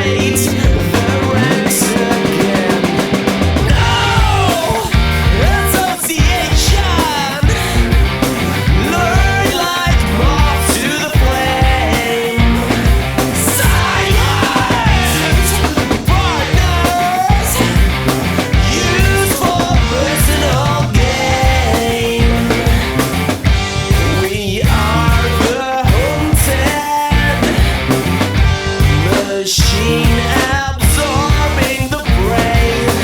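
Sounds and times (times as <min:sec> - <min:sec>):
person singing: 0:00.0 - 0:23.0, 0:23.9 - 0:27.8, 0:28.7 - 0:33.0
drums hitting steadily: 0:00.0 - 0:33.0
rock band playing: 0:00.0 - 0:33.0.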